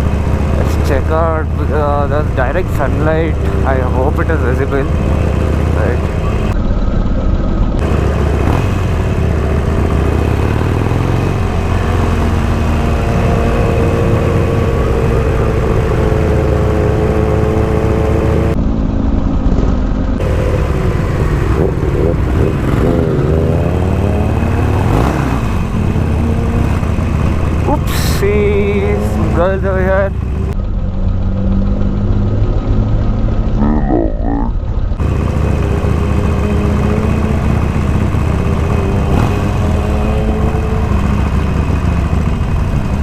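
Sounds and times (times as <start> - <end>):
motorcycle engines rumbling: 0.0 - 43.0.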